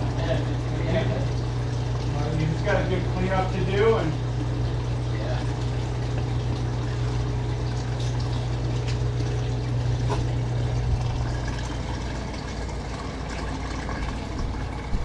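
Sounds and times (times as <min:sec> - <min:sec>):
steady low hum: 0:00.0 - 0:15.0
water draining down floor drain: 0:00.0 - 0:15.0.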